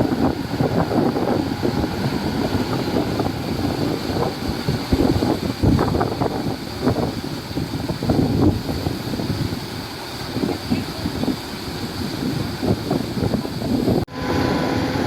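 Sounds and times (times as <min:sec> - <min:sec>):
heavy diesel machinery rumbling: 0:00.0 - 0:15.0
wind buffeting microphone: 0:00.0 - 0:15.0.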